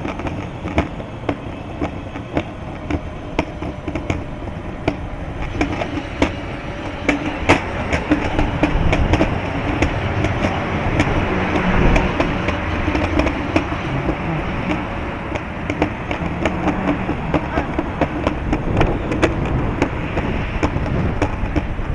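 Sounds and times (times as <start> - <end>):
sharp clicks and rattles: 0.0 - 21.9
wind rushing over microphone: 0.0 - 21.9.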